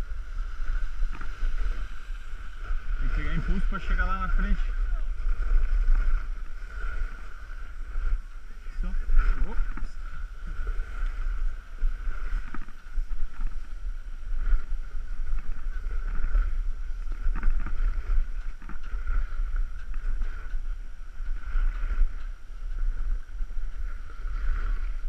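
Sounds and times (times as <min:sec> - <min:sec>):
skis scraping on snow: 0:00.0 - 0:25.0
wind rumbling on microphone: 0:00.0 - 0:25.0.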